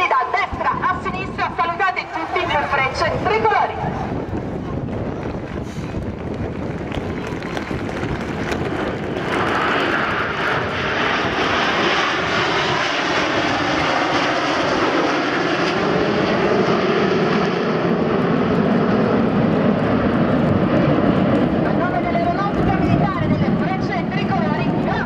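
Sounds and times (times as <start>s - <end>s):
jet aircraft flying past: 0.0s - 25.0s.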